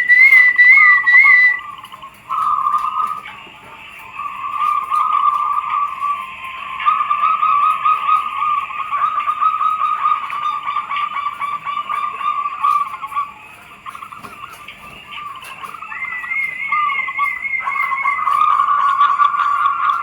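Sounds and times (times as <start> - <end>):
doves cooing: 0.0 - 20.0
higher wavering bird call: 0.0 - 20.0.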